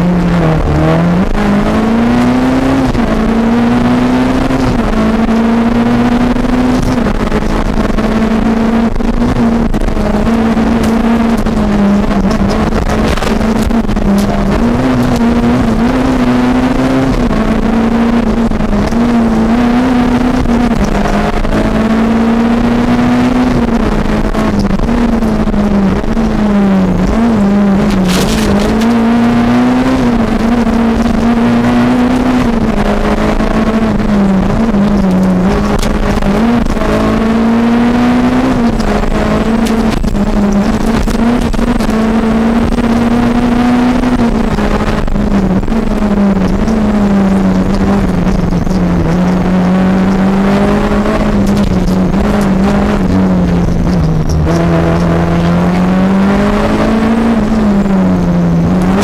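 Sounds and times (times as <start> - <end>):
car engine revving in cabin: 0.0 - 59.0
road noise: 0.0 - 59.0.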